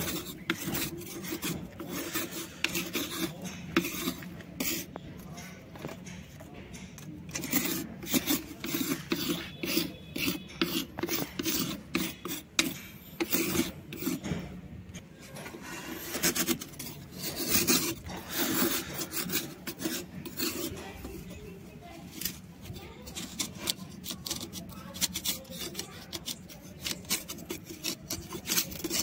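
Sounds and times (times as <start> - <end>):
steel blade scraping stone: 0.0 - 5.5, 7.2 - 14.5, 15.4 - 21.4, 22.2 - 29.0.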